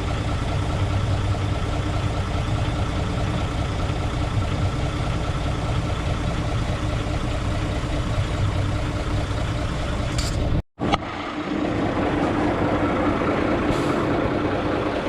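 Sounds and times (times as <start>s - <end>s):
truck diesel engine idling: 0.0s - 10.6s, 11.3s - 15.0s.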